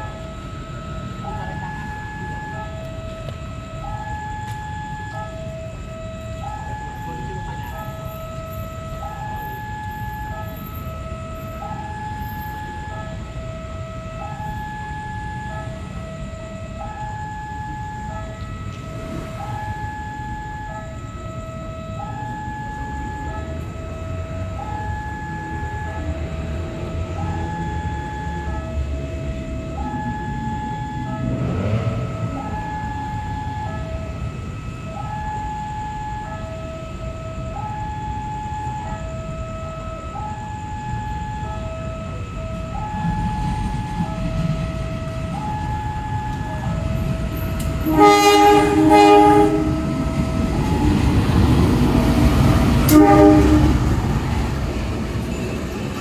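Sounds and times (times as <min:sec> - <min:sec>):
diesel locomotive rumble: 0:00.0 - 0:56.0
two-tone electronic warning alarm: 0:00.0 - 0:56.0.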